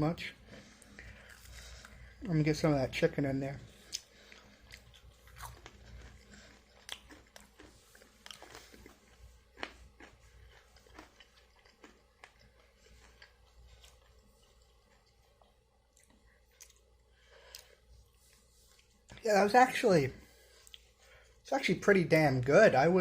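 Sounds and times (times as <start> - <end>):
person chewing crunchy food: 0.4 - 2.6, 3.6 - 19.2, 20.2 - 21.4.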